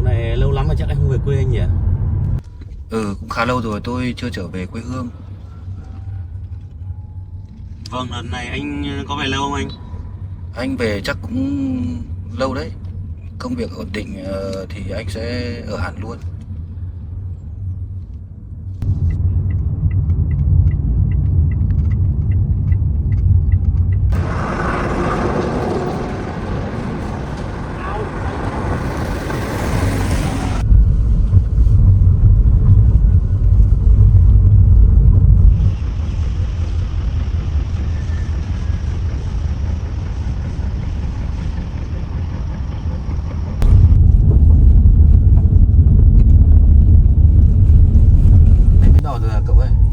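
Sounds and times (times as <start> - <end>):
road rumble inside car: 0.0 - 39.9, 43.6 - 49.9.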